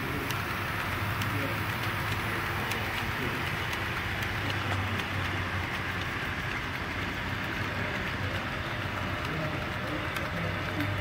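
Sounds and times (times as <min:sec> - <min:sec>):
model train wheels and motor whir: 0:00.0 - 0:11.0.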